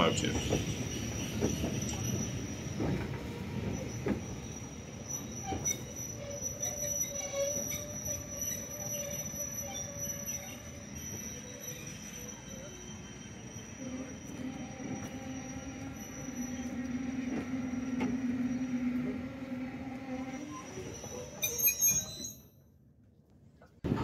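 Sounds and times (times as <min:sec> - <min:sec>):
train wheels squealing: 0:00.0 - 0:22.6.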